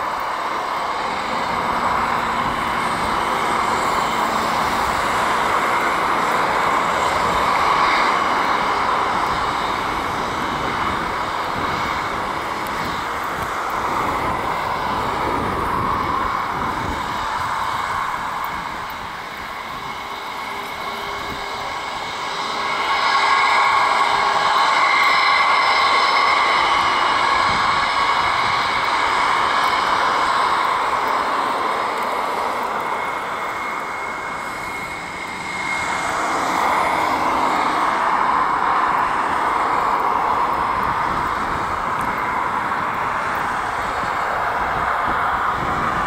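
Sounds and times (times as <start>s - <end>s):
jet engines whining: 0.0s - 46.0s.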